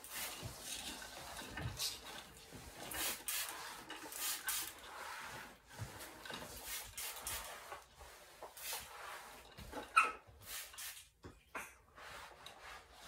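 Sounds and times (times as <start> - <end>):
knocks and scrapes: 0.0 - 10.5
clattering and rustling of objects: 0.0 - 13.0.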